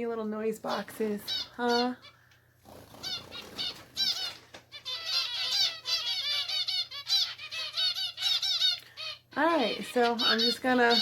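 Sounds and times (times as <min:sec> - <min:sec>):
finches chirping: 0:00.4 - 0:11.0.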